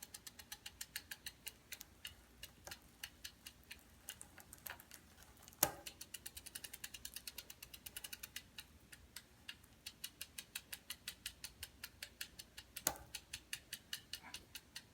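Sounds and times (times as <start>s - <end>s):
bicycle chain clicking: 0.0s - 14.9s.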